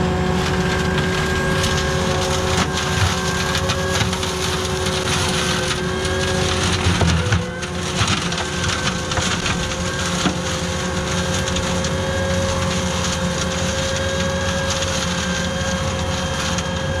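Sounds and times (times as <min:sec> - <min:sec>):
tractor engine running: 0:00.0 - 0:17.0
two-tone whine: 0:00.0 - 0:17.0.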